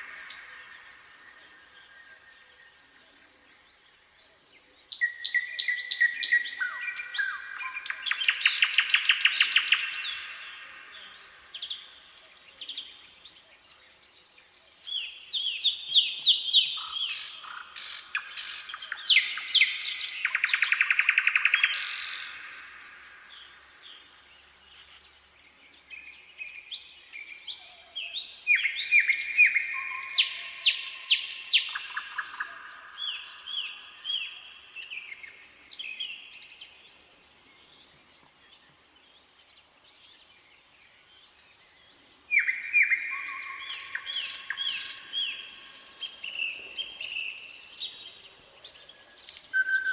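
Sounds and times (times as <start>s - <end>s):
nightingale singing trills: 0.0s - 49.9s.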